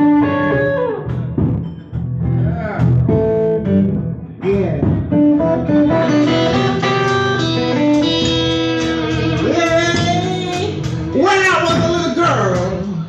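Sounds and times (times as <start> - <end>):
guitar playing single notes: 0.0 - 13.0
live band music: 0.0 - 13.0.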